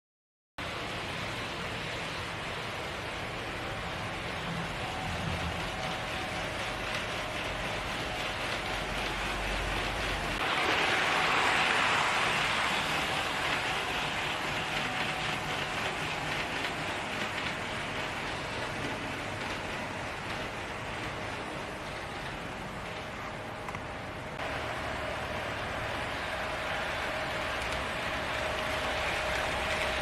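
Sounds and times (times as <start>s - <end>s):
model train wheels rolling: 0.6s - 30.0s.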